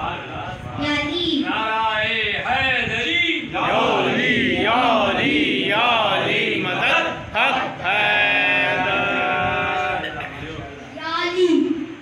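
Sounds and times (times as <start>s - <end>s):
boy chanting through microphone: 0.0s - 12.0s.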